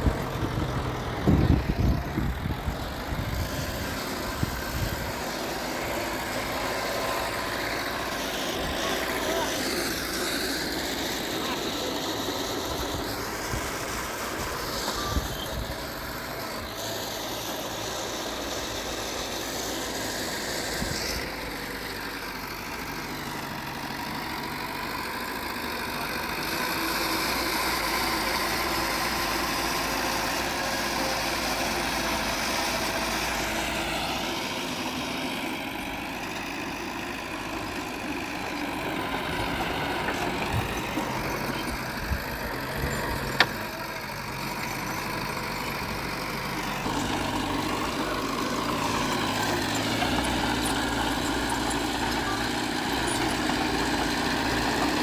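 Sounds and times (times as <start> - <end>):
earthmover diesel engine running: 0.0 - 55.0.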